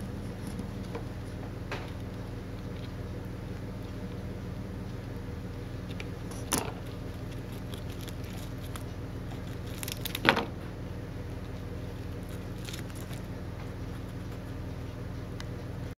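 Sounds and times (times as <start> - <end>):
hamster gnawing corn: 0.0 - 15.9
low hum: 0.0 - 15.9.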